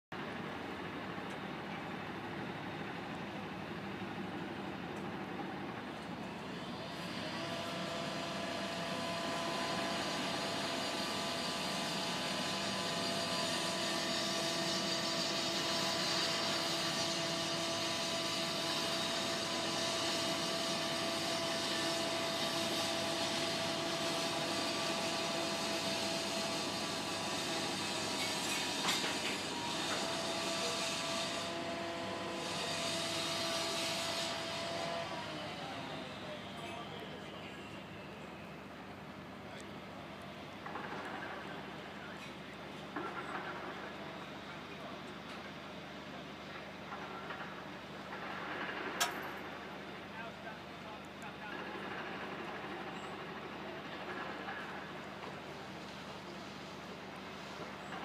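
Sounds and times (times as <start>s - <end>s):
mechanical whine of machinery: 0.2s - 58.0s.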